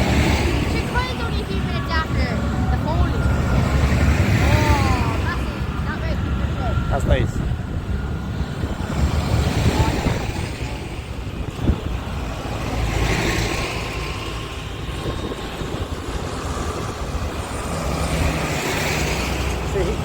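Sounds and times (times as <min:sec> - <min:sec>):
tractor engines running: 0:00.0 - 0:20.0.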